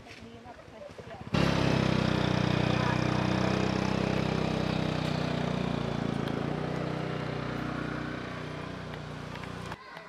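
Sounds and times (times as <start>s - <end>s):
engine running: 1.3s - 9.8s.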